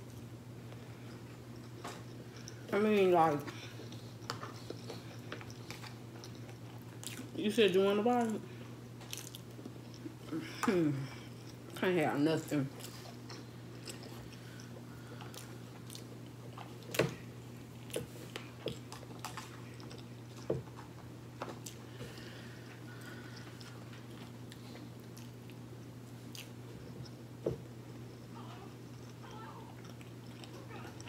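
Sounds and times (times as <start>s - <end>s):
close-up chewing and biting: 0.0s - 2.7s, 3.3s - 7.4s, 8.2s - 11.8s, 12.7s - 31.0s
low steady hum: 0.0s - 31.0s.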